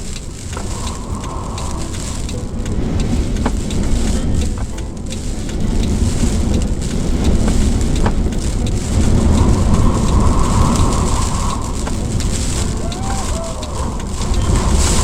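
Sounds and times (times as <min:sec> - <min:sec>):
gusting wind on microphone: 0:00.0 - 0:15.0
light ticks: 0:00.0 - 0:15.0.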